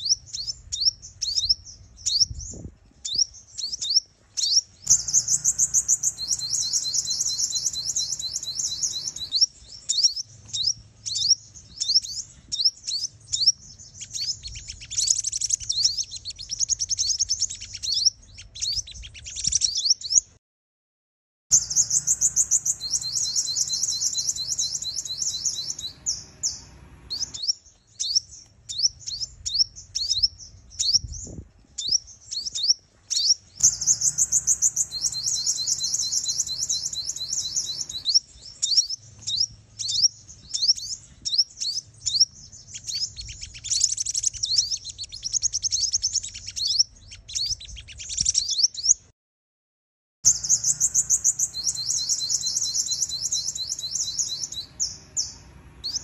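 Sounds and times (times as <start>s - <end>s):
bird trills and chirps: 0.0s - 20.4s, 21.5s - 49.1s, 50.3s - 56.0s.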